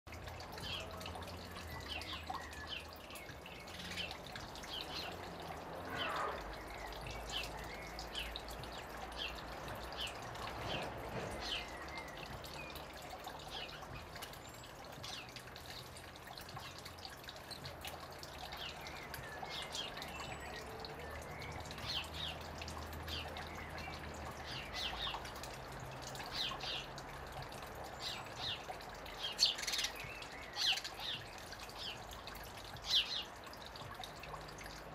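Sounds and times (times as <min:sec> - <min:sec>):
water trickling into a pool: 0:00.0 - 0:34.9
sparrows chirping: 0:00.1 - 0:34.9.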